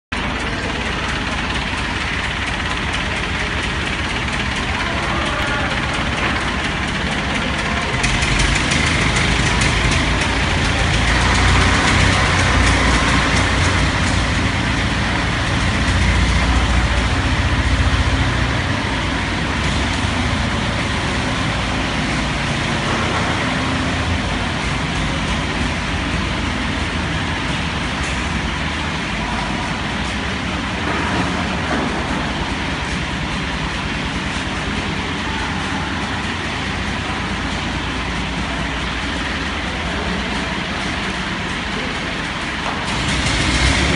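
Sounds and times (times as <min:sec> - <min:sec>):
heavy machinery rumbling: 0:00.1 - 0:43.9.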